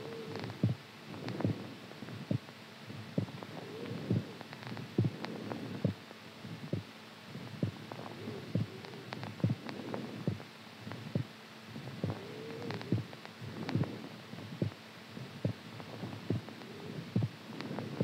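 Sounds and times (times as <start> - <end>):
faint hum: 0.0 - 18.0
heartbeat thumps: 0.3 - 6.0, 6.6 - 6.9, 7.5 - 7.8, 8.5 - 18.0.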